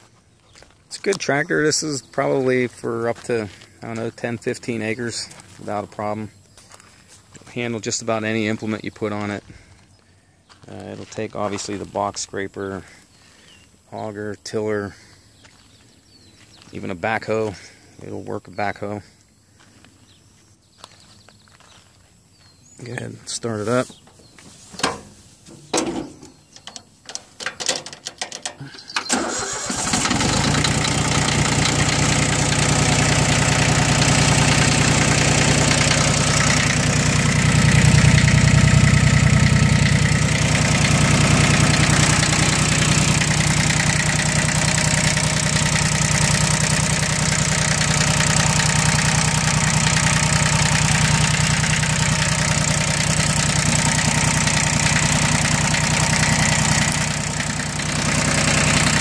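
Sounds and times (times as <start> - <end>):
diesel engine idling: 0.3 - 19.4, 22.8 - 59.0.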